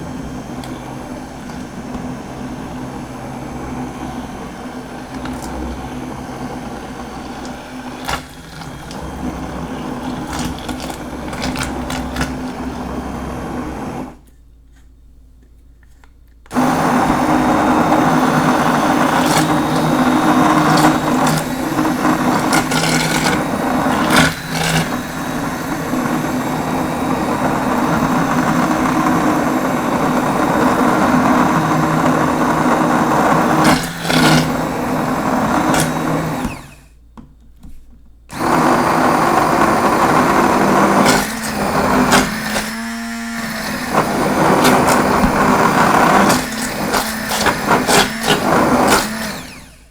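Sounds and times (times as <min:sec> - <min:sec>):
hand blender motor whirring: 0:00.0 - 0:14.2, 0:16.5 - 0:37.0, 0:38.3 - 0:49.9.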